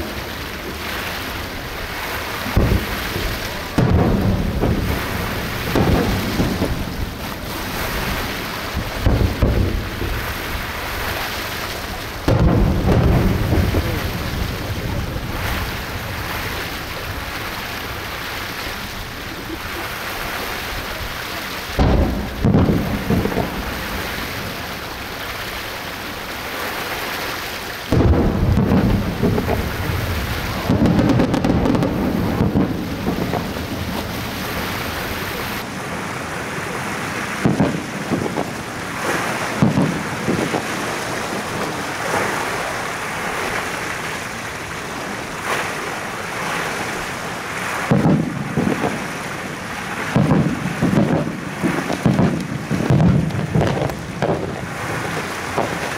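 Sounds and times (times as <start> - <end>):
fireworks booming with echoes: 0.0 - 27.0, 27.8 - 44.6, 47.8 - 55.9
steady background hiss: 0.0 - 55.9.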